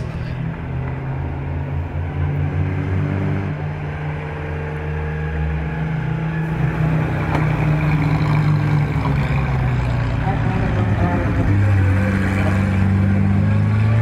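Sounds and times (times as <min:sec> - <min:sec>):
sports car engines driving uphill: 0:00.0 - 0:14.0.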